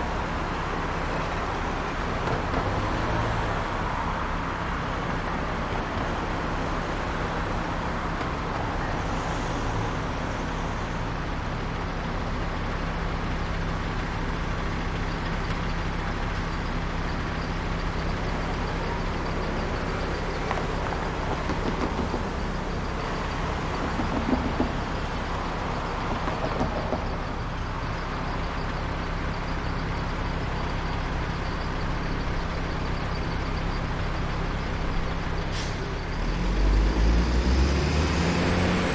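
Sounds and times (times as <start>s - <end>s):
traffic rumble: 0.0s - 38.9s.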